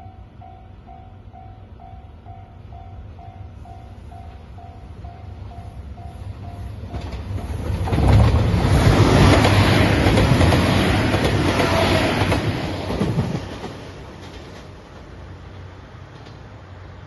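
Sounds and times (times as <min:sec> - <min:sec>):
diesel train rumbling past: 0:00.0 - 0:17.0.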